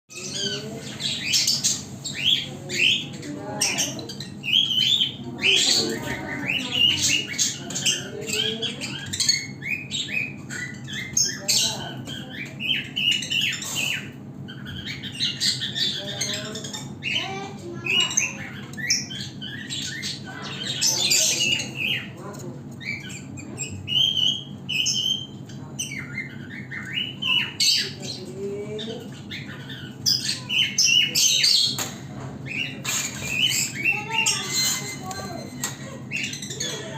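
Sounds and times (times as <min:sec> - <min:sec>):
lovebirds squawking and chirping: 0:00.1 - 0:36.9.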